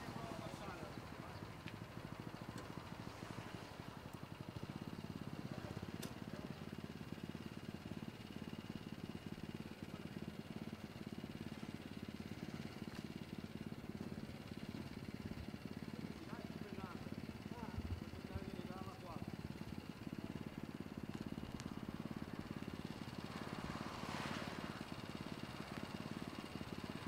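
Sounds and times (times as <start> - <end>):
small engine running: 0.0 - 27.0.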